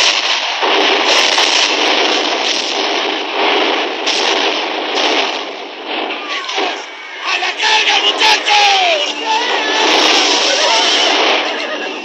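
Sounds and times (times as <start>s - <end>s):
artillery shell explosions: 0.0s - 12.0s
gunfire: 0.0s - 12.0s.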